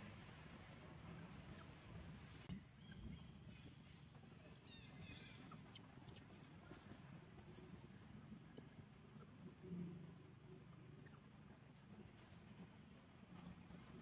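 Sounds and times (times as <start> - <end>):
small birds chirping: 0.2 - 9.4, 10.8 - 14.0.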